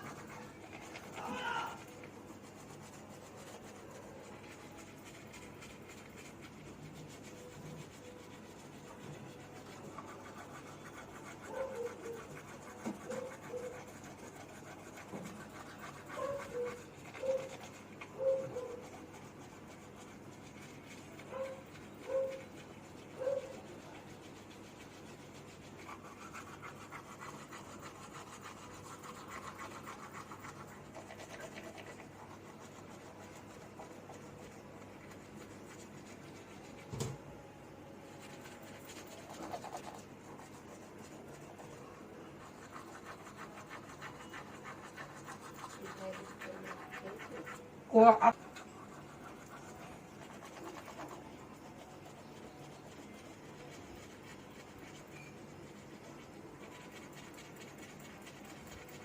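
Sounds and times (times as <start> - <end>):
toothbrush scrubbing teeth: 0.0 - 59.0.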